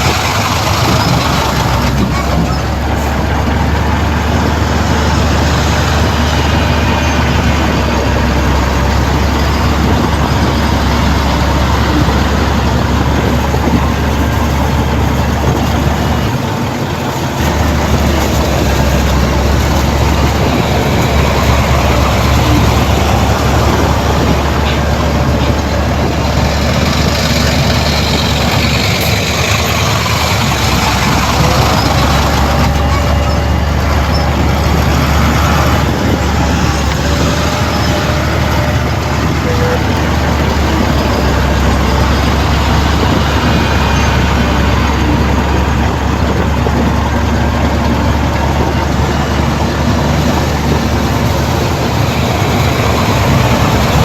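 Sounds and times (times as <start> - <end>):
heavy diesel engine rumbling: 0.0 - 54.0.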